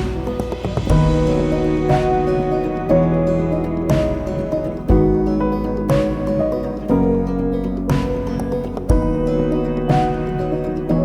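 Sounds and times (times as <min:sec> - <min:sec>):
soft instrumental guitar music: 0:00.0 - 0:11.0.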